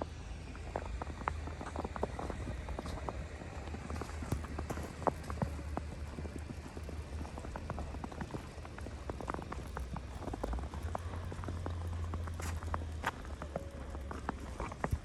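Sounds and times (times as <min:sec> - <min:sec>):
steady low rumble: 0:00.0 - 0:15.0
footsteps crunching in snow: 0:00.5 - 0:15.0.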